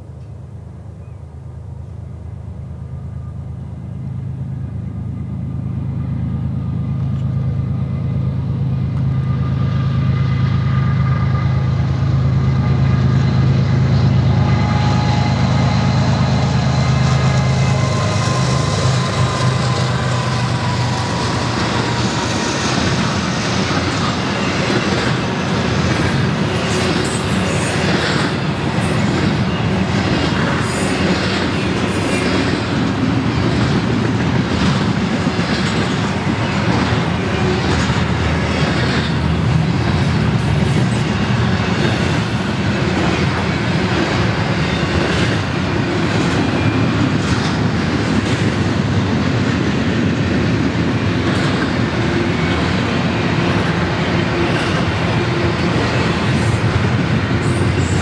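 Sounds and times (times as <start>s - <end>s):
freight wheels rumbling on rail: 0.0s - 58.0s.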